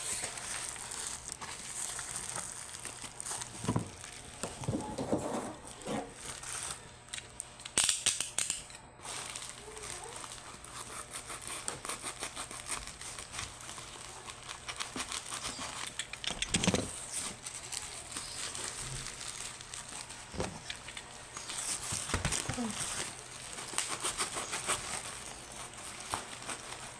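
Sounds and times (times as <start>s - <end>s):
packaging crinkling: 0.0s - 5.0s, 5.6s - 26.9s.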